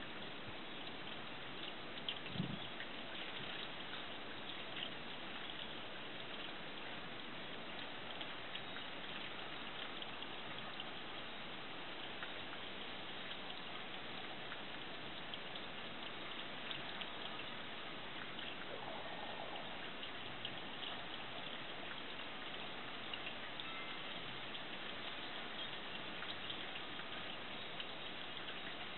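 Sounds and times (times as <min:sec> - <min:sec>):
raindrops ticking: 0:00.0 - 0:28.9
steady rain hiss: 0:00.0 - 0:28.9.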